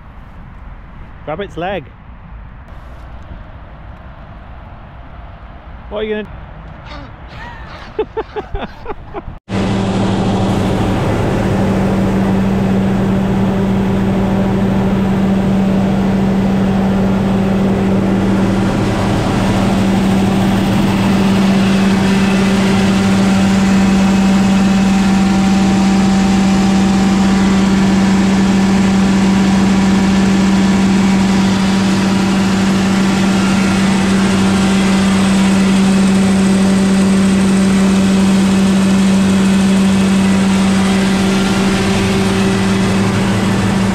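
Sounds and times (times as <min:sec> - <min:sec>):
engine running with low drone: 0:06.4 - 0:43.9.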